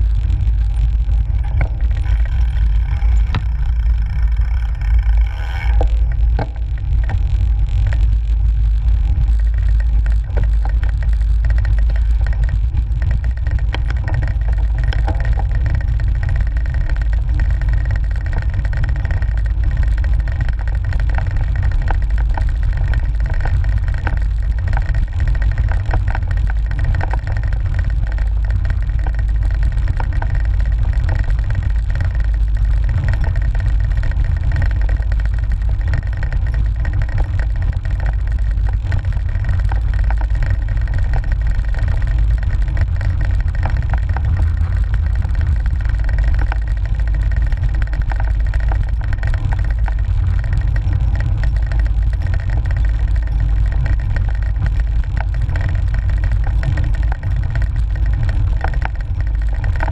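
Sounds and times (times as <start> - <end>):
knocks and rattles: 0.0 - 59.9
tyre and road vibration: 0.0 - 59.9.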